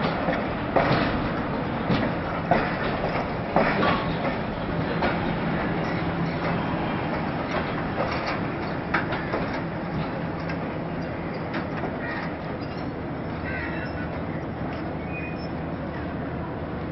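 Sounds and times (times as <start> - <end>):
wheels clicking over rail joints: 0.0 - 16.3
train wheels rumbling on rail: 0.0 - 16.9.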